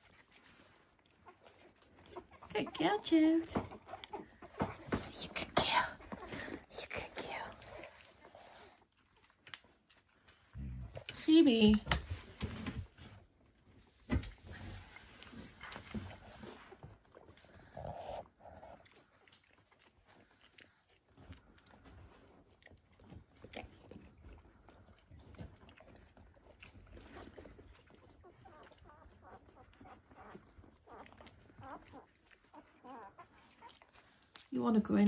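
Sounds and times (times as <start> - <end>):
puppies squeaking and grunting: 0.0 - 11.2, 12.0 - 34.6
soft rustles and clicks: 3.4 - 34.5.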